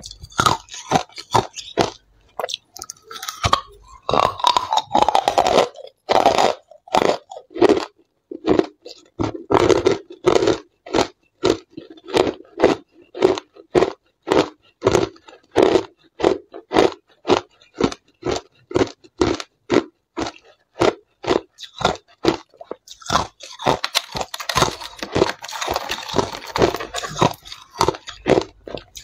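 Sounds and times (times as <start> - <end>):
crushed ice being chewed: 0.0 - 29.0.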